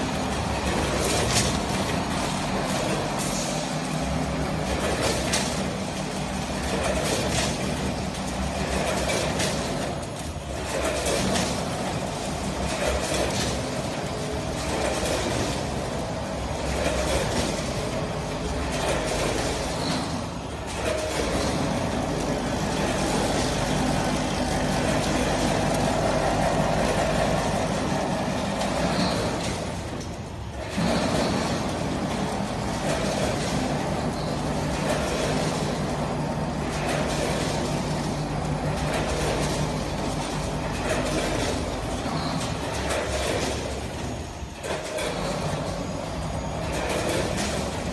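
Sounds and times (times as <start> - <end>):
steady machine drone: 0.0 - 47.9.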